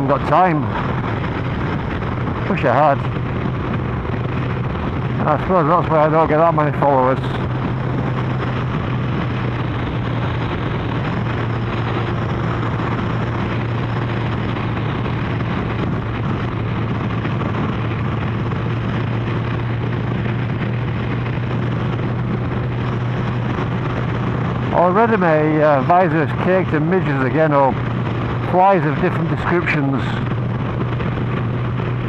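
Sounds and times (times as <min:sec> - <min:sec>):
motorcycle engine cruising: 0:00.0 - 0:32.0
wind rush: 0:00.0 - 0:32.0.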